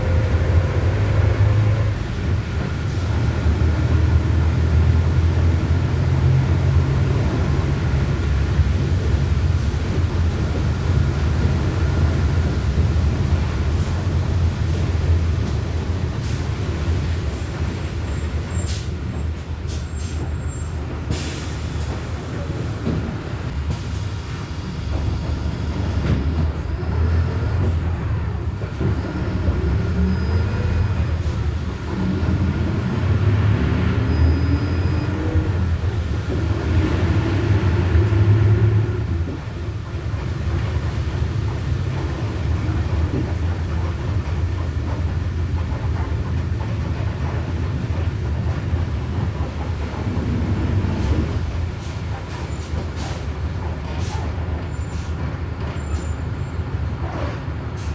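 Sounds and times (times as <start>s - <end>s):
bus diesel engine rumble: 0.0s - 57.9s.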